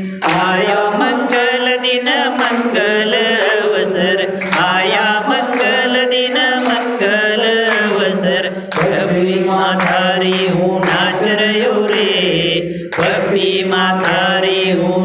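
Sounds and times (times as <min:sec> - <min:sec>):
man singing a hymn into microphone: 0:00.0 - 0:15.0
people clapping along: 0:00.0 - 0:15.0.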